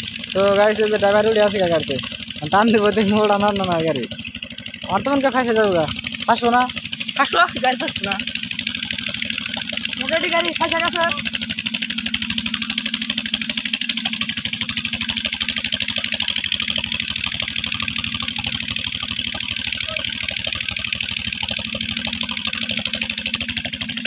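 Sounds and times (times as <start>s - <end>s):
tractor diesel engine thudding: 0.0s - 24.0s.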